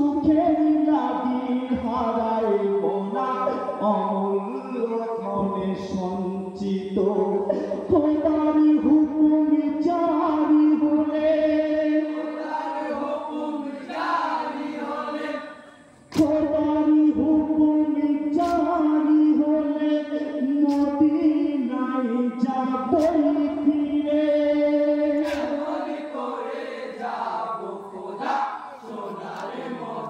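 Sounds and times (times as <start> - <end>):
group of voices singing: 0.0 - 30.0.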